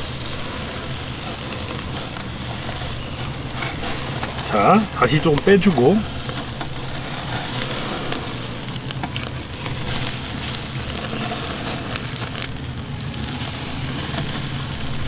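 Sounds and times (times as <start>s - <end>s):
burgers sizzling on grill: 0.0s - 15.0s
fat crackling and popping: 0.0s - 15.0s.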